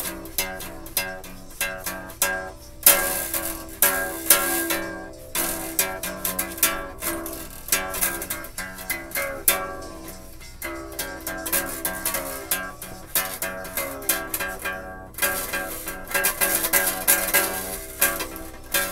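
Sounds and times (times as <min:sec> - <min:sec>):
ukulele plucked notes and chords: 0:00.0 - 0:18.9.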